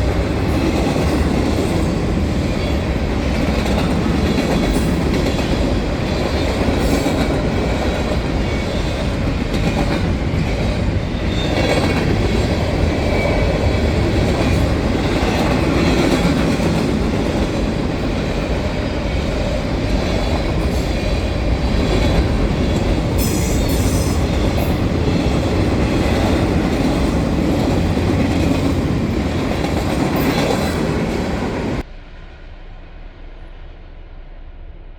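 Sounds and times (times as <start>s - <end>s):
freight train cars rolling past: 0.0s - 34.9s
wheels clickety-clack: 2.6s - 31.8s.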